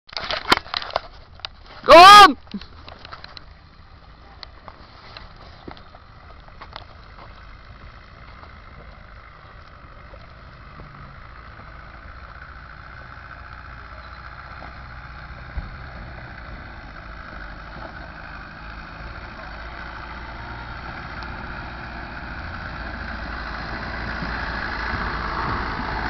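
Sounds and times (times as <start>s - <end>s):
off-road vehicle engine rumbling: 0.0s - 26.0s.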